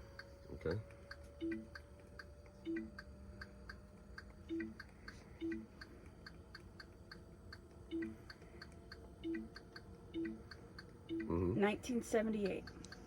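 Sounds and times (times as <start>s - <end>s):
steady rapid ticking: 0.0s - 13.0s.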